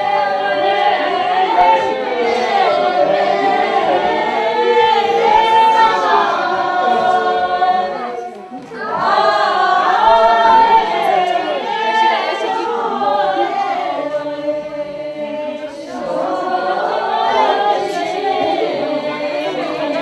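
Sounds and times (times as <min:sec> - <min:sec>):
group singing without instruments: 0:00.0 - 0:20.0.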